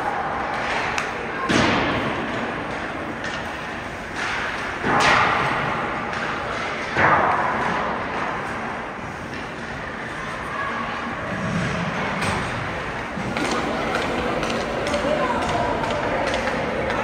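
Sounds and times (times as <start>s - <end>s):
hockey pucks striking boards: 0.0s - 10.4s, 11.6s - 17.0s.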